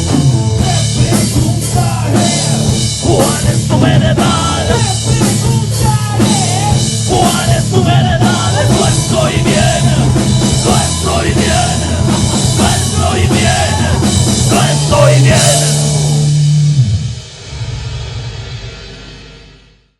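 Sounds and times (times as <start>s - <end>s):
rock band playing loud: 0.0s - 19.6s
drums and cymbals: 0.0s - 19.9s.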